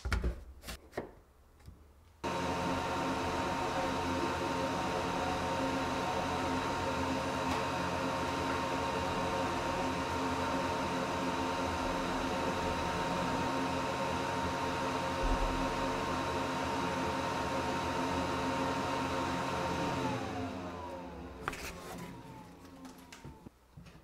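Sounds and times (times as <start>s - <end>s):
laser engraver fan whir: 2.2s - 23.5s.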